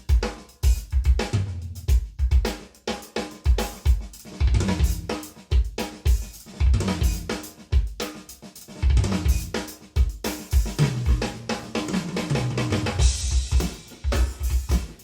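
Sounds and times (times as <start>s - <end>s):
drum kit playing a steady beat: 0.0s - 15.0s.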